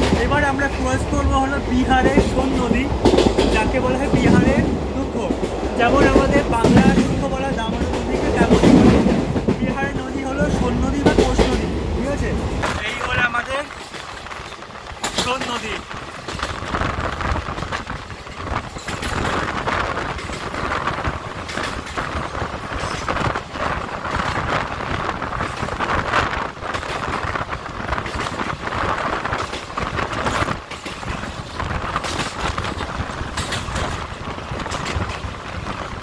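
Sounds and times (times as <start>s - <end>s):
train coaches rumbling and rattling: 0.0s - 36.0s
wheels clattering on rails: 0.0s - 36.0s.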